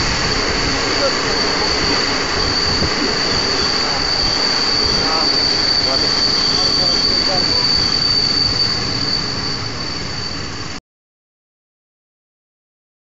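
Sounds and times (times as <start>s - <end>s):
high-pitched whine: 0.0s - 10.8s
train wheels rumbling on rail: 0.0s - 10.8s
wind noise: 0.0s - 10.8s.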